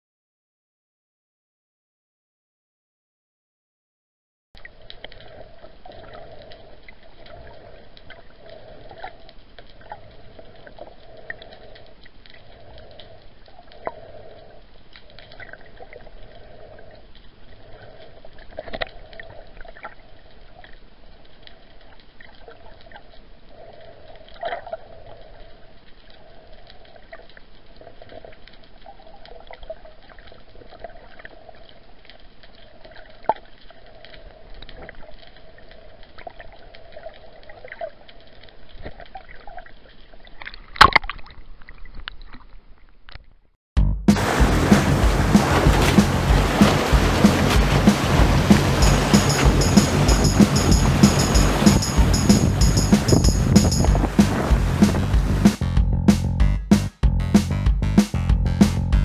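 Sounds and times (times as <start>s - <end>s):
muffled underwater wash: 4.6s - 43.2s, 44.0s - 55.6s.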